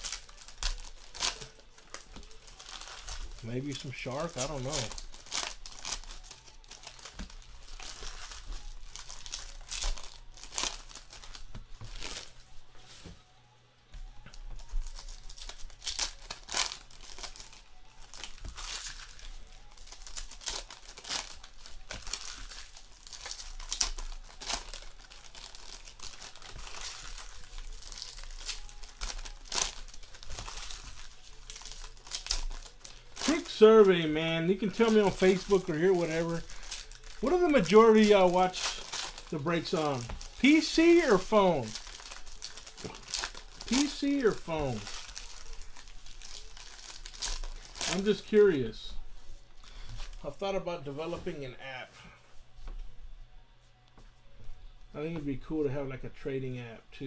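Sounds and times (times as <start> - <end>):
foil wrappers crinkling and tearing: 0.0 - 12.5, 14.1 - 51.0.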